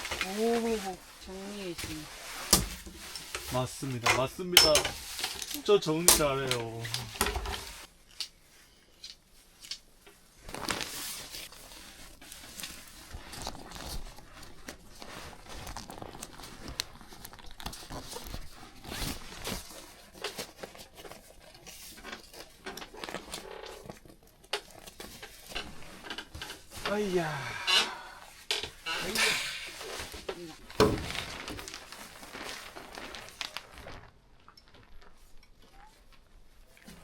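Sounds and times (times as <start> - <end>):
packaging crinkling and rustling: 0.0 - 27.4, 28.3 - 37.0.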